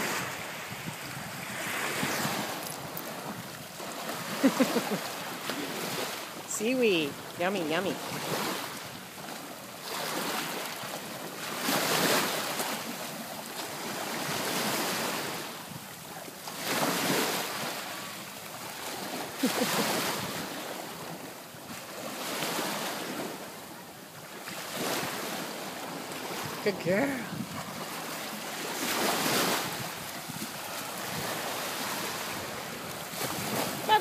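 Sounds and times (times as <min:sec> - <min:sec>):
small waves lapping on shore: 0:00.0 - 0:34.0.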